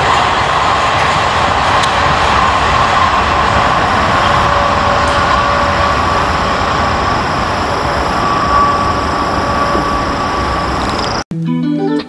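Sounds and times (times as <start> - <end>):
wheels rumbling on rail: 0.0 - 11.2.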